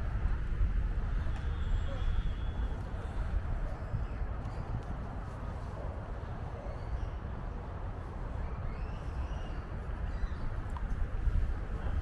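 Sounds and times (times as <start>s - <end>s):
city low rumble: 0.0s - 12.0s.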